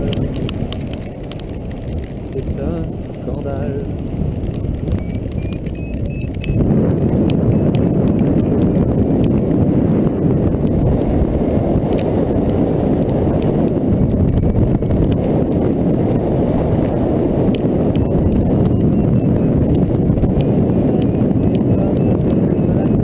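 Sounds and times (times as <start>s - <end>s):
airflow buffeting microphone: 0.0s - 23.0s
raindrops ticking: 0.0s - 23.0s.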